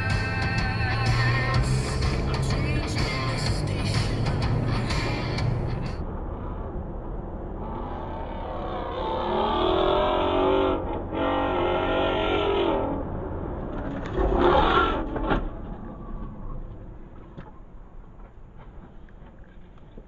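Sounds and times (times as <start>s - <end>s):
vehicle whine: 0.0s - 19.8s.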